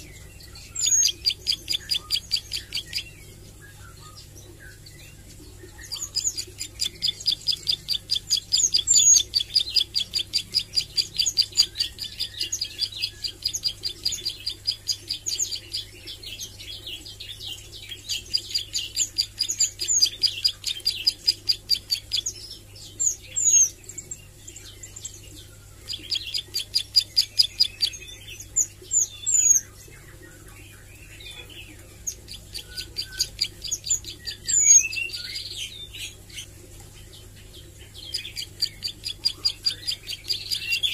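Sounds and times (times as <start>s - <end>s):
bird singing rapid ticking notes: 0.0s - 40.9s.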